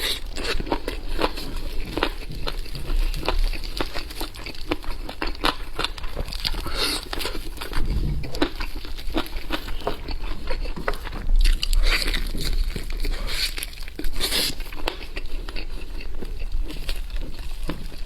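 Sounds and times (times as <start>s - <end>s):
chewing and biting: 0.0s - 18.0s.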